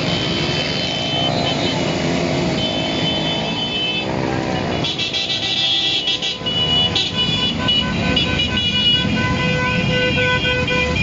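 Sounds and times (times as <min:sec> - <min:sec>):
motorcycle engines running: 0:00.0 - 0:11.0
vehicle horns honking: 0:00.0 - 0:11.0.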